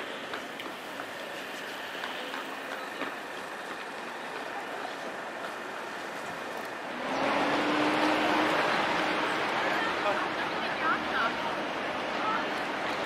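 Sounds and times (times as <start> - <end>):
street noise: 0.0 - 13.0
traffic noise: 0.0 - 13.0.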